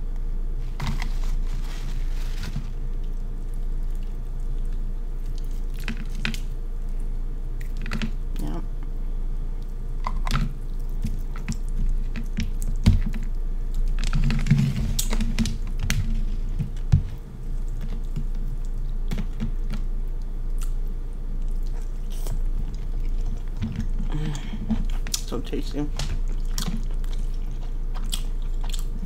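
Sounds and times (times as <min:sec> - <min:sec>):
wet chewing and smacking: 0:02.9 - 0:08.5, 0:09.6 - 0:29.0.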